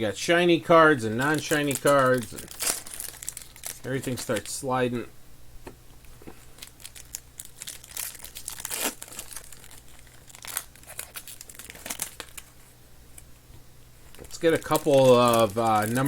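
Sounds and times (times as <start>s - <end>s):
card pack wrappers crinkling: 1.0s - 4.7s, 6.1s - 13.4s, 14.0s - 16.0s.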